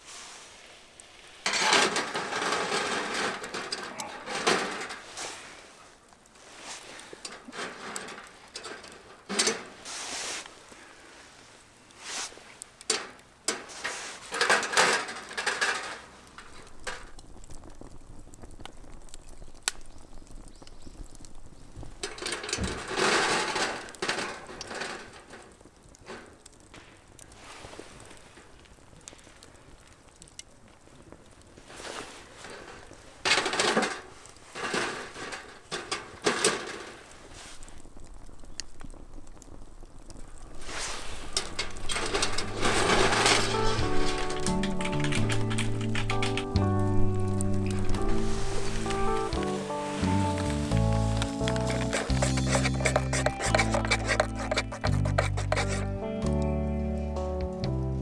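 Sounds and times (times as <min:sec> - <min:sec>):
camping gear clattering and rustling: 0:00.0 - 0:56.2.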